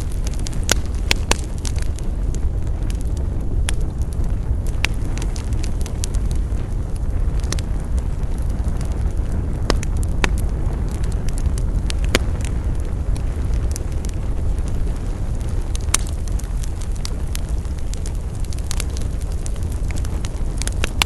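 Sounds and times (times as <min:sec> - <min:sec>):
burning wood crackling and popping: 0:00.0 - 0:21.0
campfire low rumble: 0:00.0 - 0:21.0.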